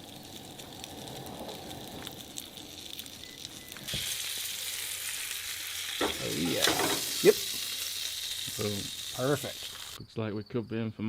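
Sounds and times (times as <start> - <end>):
fish sizzling in a pan: 0.0 - 10.0
light crackling and ticking: 0.0 - 10.0.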